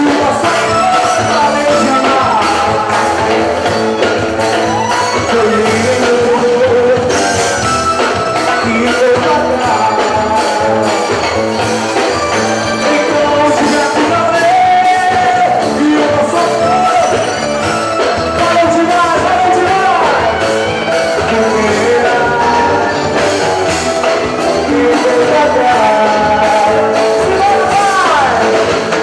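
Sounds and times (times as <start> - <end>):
live band playing: 0.0 - 29.0
male singer: 0.0 - 29.0.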